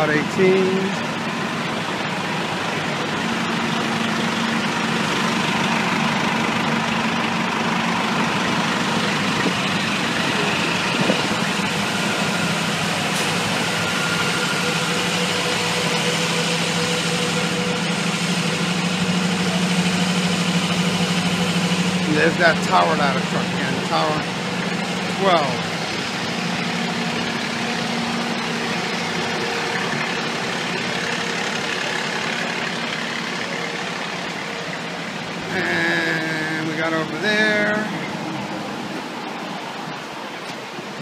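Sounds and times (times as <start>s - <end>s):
diesel engines idling: 0.0s - 41.0s.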